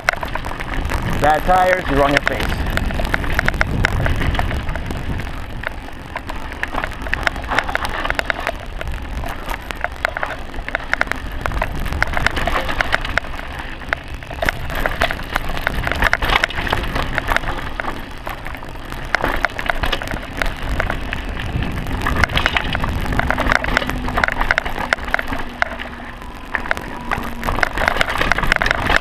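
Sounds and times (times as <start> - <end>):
mountain bike rattling over rocks: 0.0 - 29.0
tyre noise: 0.0 - 29.0
wind rumble on microphone: 0.0 - 29.0.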